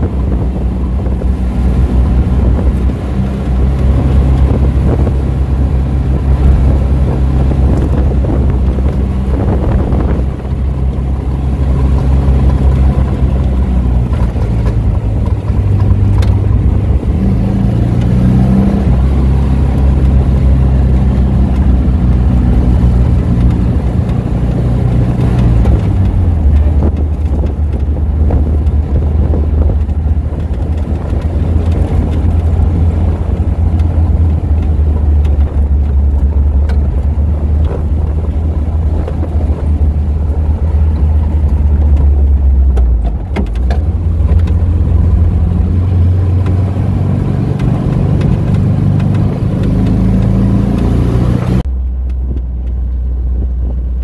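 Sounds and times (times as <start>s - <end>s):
car engine running: 0.0s - 54.0s
wind and road noise: 0.0s - 54.0s.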